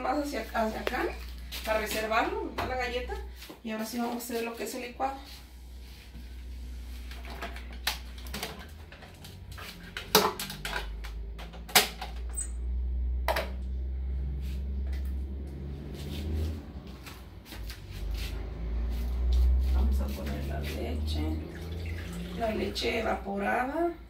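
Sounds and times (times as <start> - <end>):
low steady rumble: 4.7 - 24.0.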